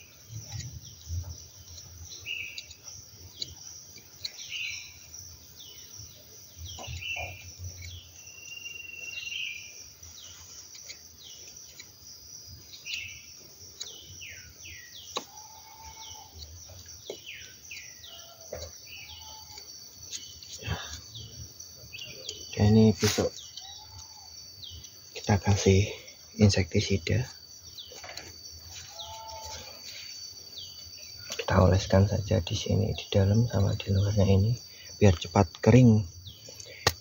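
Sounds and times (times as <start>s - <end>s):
birds chirping: 0.0s - 37.0s
high insect drone: 0.0s - 37.0s.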